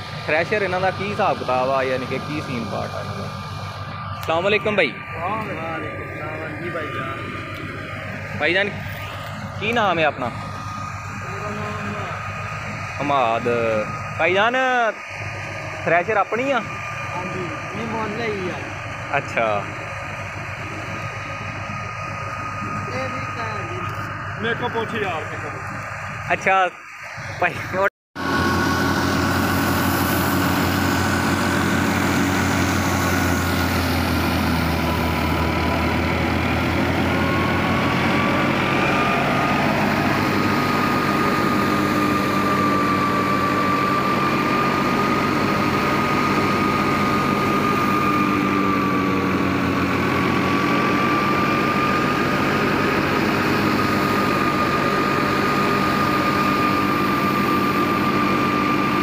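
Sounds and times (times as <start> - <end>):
threshing machine whine: 0.0 - 59.0
tractor engine drone: 0.0 - 59.0.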